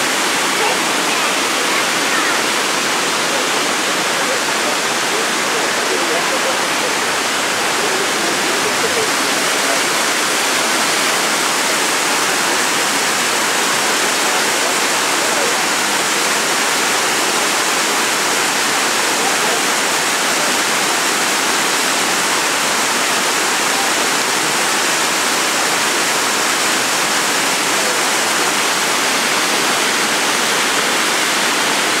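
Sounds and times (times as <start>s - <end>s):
waterfall pouring: 0.0s - 32.0s.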